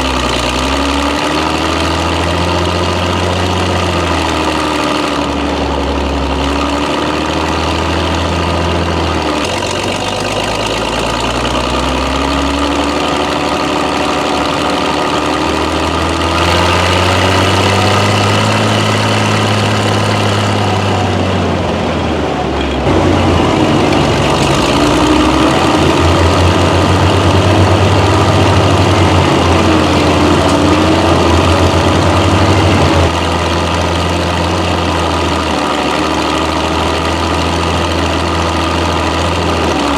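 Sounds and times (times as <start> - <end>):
tank engine running: 0.0 - 39.9.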